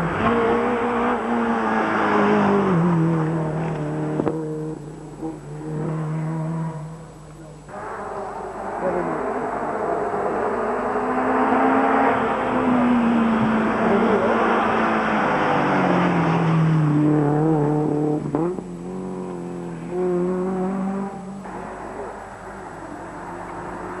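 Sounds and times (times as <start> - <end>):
rally car engines passing at speed: 0.0 - 24.0.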